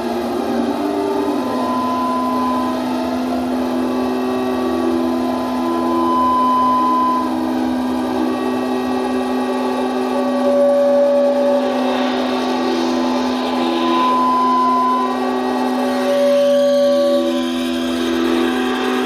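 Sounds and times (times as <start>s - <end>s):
resonant ringing tones: 0.0s - 19.0s
steady low hum: 0.0s - 19.0s.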